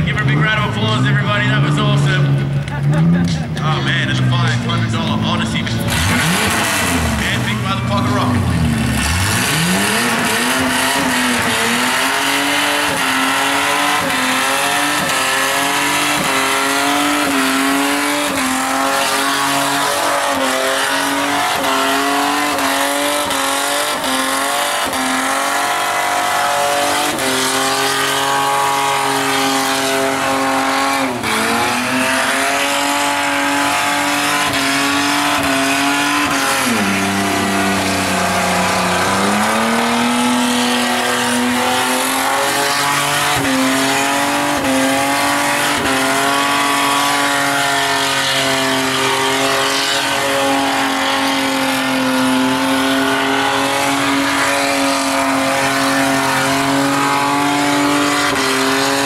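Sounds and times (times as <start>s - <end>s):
car engine at high revs: 0.0s - 59.0s.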